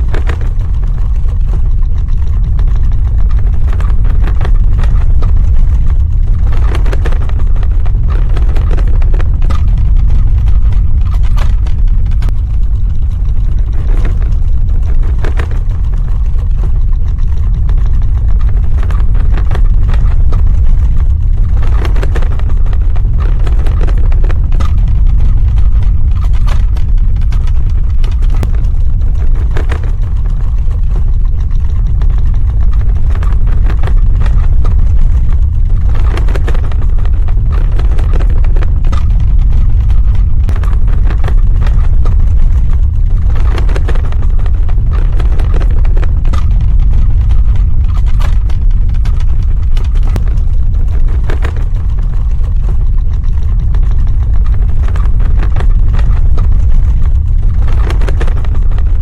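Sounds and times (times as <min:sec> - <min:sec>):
crackles: 0:00.0 - 0:59.0
deep earthquake rumble: 0:00.0 - 0:59.0.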